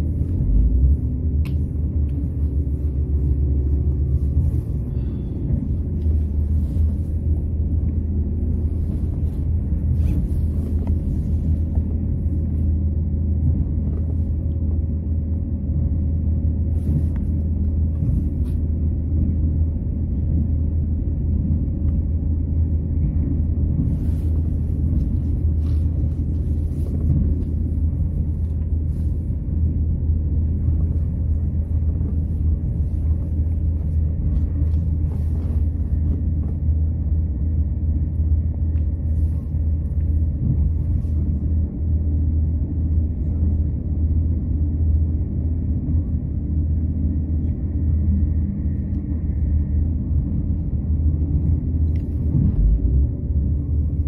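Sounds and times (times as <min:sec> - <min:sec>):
train rumbling and droning: 0:00.0 - 0:54.0.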